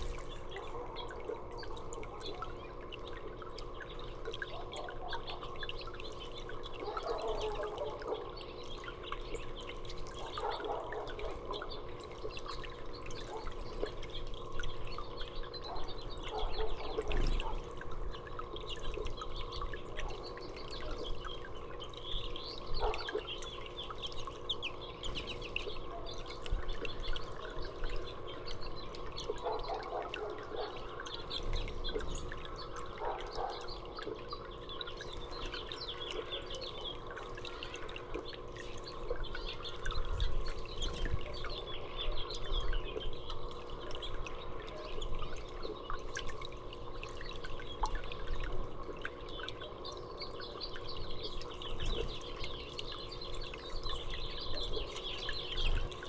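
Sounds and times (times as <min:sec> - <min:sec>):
faint steady hum: 0:00.0 - 0:56.0
songbirds chirping: 0:00.0 - 0:56.0
trickling dripping water: 0:00.0 - 0:56.0.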